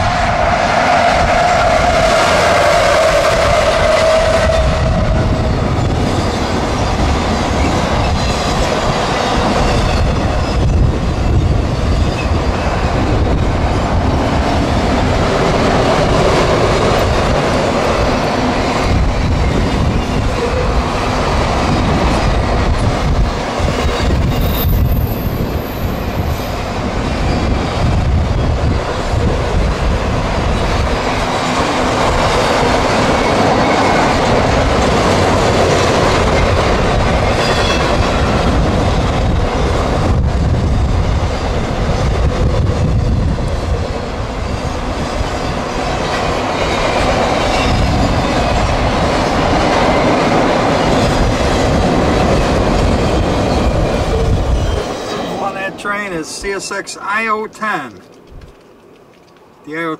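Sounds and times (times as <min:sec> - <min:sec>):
freight train wheels on rails: 0:00.0 - 0:59.8.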